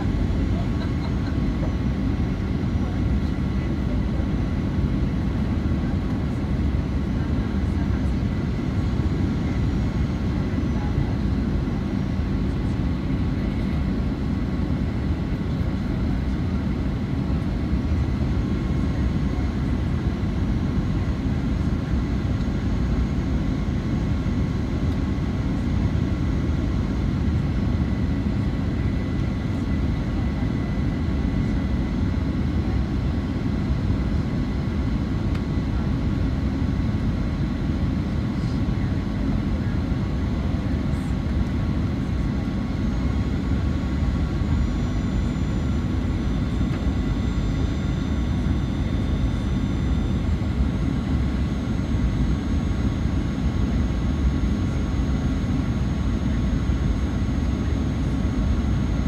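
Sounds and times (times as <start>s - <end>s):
airplane cabin noise: 0.0s - 59.0s.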